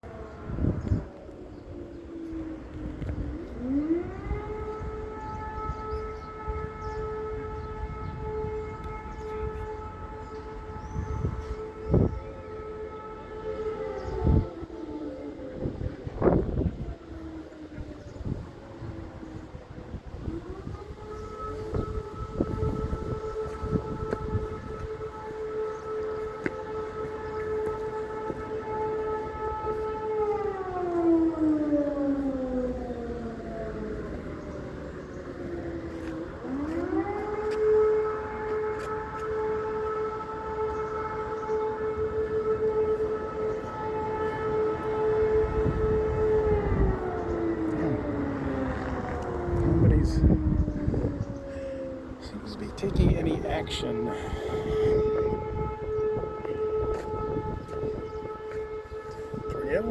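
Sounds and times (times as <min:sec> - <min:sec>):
air raid siren wailing: 0:00.0 - 0:59.9.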